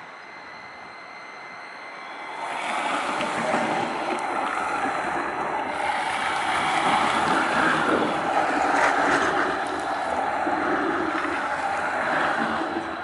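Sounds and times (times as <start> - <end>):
tram wheels rumbling on rail: 1.6 - 13.0.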